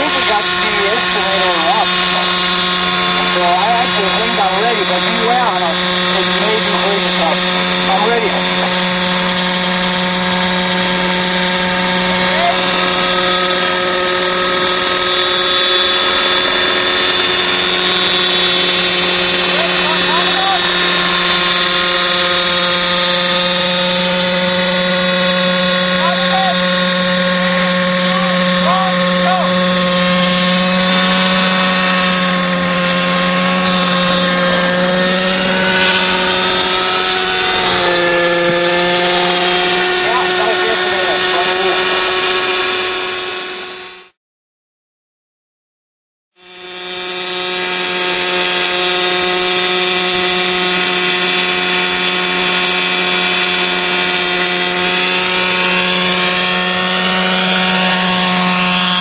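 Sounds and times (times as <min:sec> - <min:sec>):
model helicopter engine and rotor: 0:00.0 - 0:44.2, 0:46.4 - 0:59.0.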